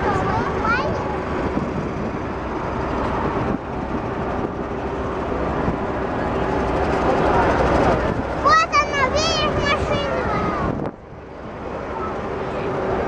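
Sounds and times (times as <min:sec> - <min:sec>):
armoured vehicles driving past: 0:00.0 - 0:13.0.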